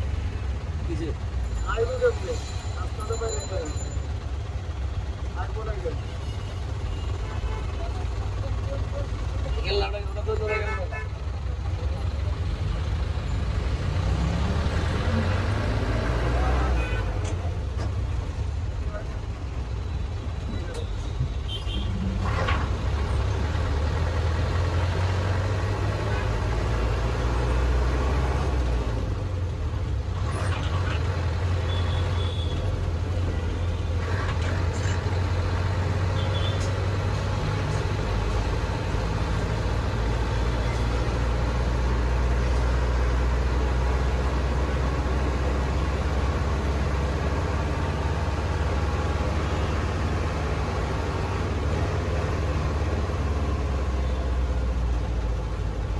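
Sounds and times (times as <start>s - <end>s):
vehicle rumble: 0.0s - 55.9s.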